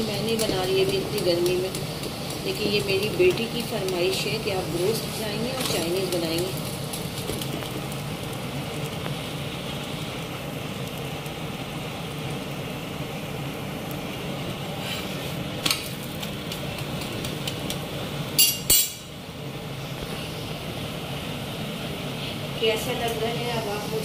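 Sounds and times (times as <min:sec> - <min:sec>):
flatbread sizzling in ghee: 0:00.0 - 0:24.0.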